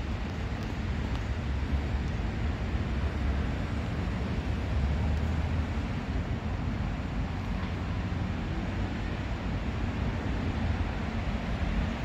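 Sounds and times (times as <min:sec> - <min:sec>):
distant diesel locomotive rumble: 0:00.0 - 0:12.0.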